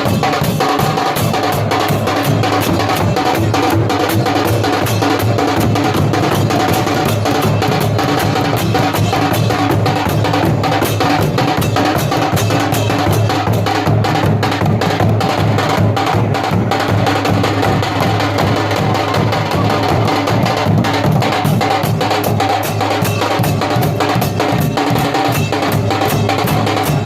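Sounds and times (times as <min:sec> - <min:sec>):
fast drumming: 0:00.0 - 0:27.0.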